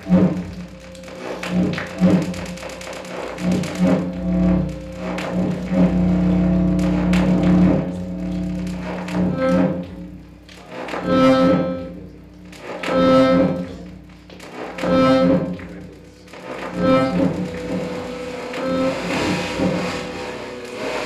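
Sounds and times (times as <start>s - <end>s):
low steady drone: 0.0s - 21.0s
pitched layered tone: 0.0s - 21.0s.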